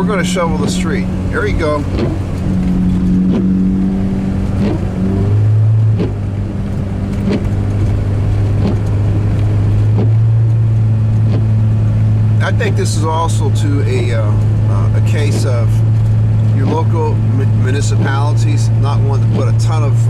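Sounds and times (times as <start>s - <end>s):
car engine driving: 0.0s - 20.0s.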